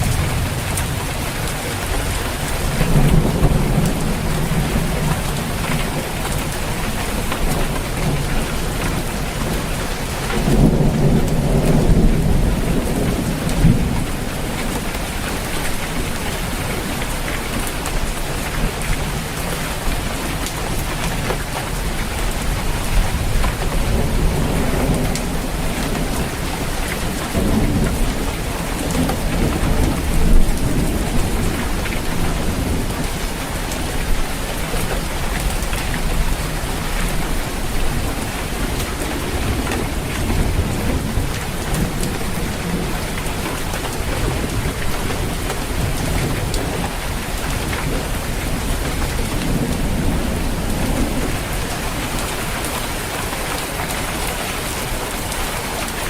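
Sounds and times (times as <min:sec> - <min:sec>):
rolling thunder: 0:00.0 - 0:53.4
heavy rain drumming on a roof: 0:00.0 - 0:56.0.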